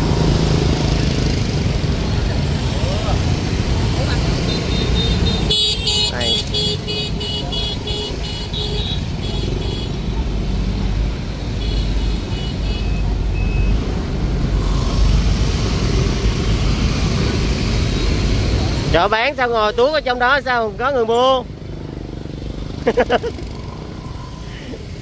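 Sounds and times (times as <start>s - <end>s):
low traffic rumble: 0.0s - 25.0s
passing motorbikes and cars: 0.0s - 25.0s.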